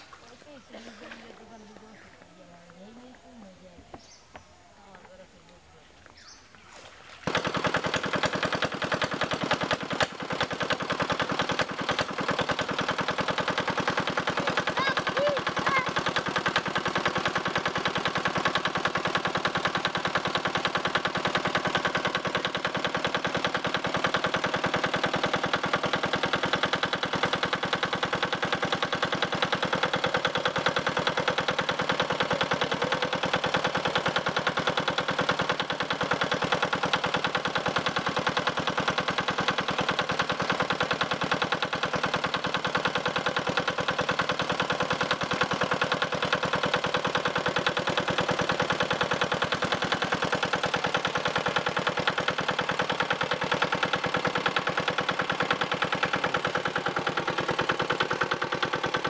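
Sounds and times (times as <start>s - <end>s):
engine-driven water pump running: 7.2s - 59.0s.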